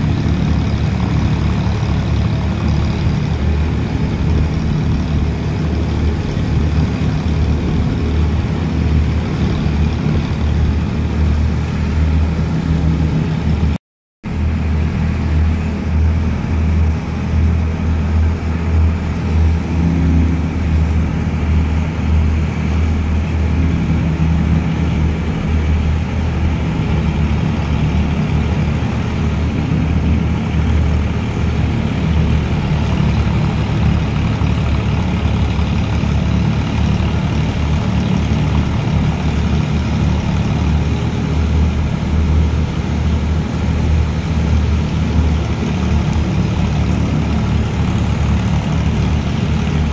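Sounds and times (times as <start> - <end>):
tractor engine droning: 0.0 - 49.9.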